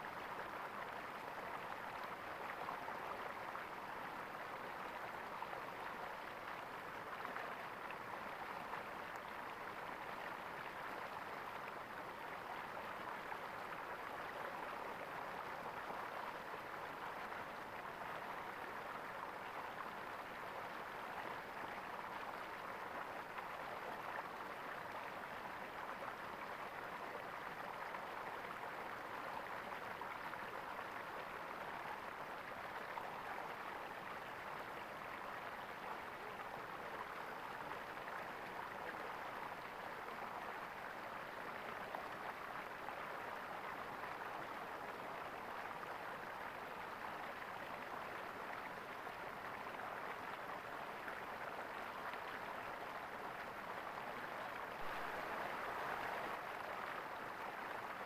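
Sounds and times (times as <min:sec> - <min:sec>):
stream water gurgling: 0:00.0 - 0:58.0.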